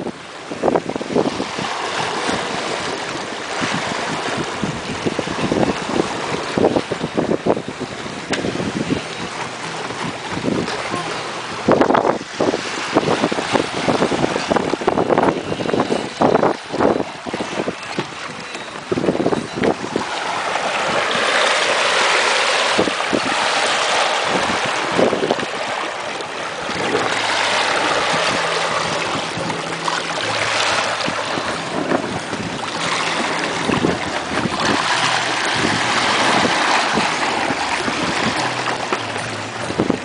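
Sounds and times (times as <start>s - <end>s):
water splashing along boat hull: 0.0s - 40.0s
wind buffeting microphone: 0.0s - 40.0s.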